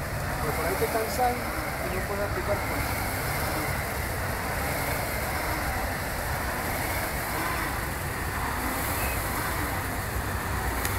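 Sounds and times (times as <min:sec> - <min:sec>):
rowing machine flywheels whirring: 0:00.0 - 0:10.9.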